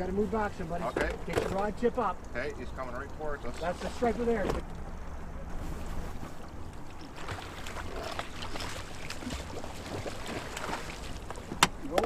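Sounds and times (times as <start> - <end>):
water splashes: 0.3 - 4.9, 5.6 - 12.0.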